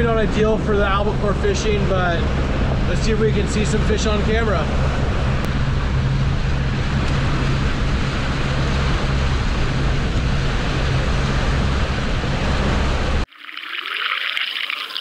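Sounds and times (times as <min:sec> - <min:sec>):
boat engine droning: 0:00.0 - 0:13.3
water rushing: 0:00.0 - 0:15.0.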